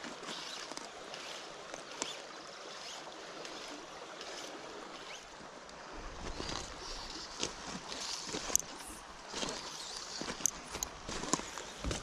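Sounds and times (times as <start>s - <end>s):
river water rushing over gravel: 0.0s - 12.0s.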